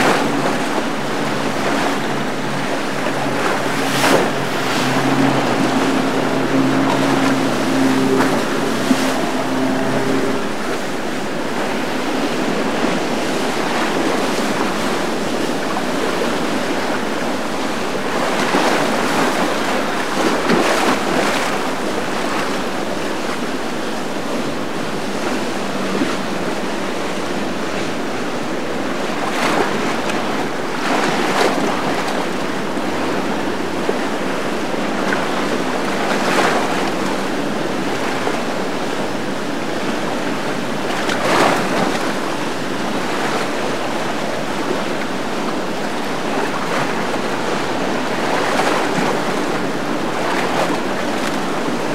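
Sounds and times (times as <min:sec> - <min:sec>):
churning water: 0:00.0 - 0:51.9
wind buffeting microphone: 0:00.0 - 0:51.9.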